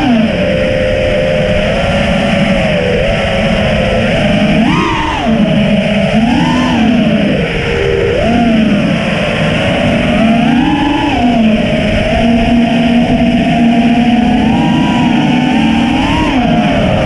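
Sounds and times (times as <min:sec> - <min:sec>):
drone motors buzzing: 0:00.0 - 0:17.0.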